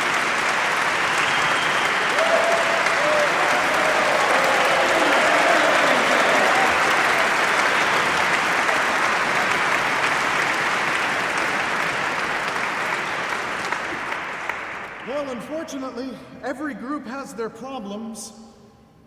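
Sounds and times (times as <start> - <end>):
crowd applauding: 0.0 - 15.8.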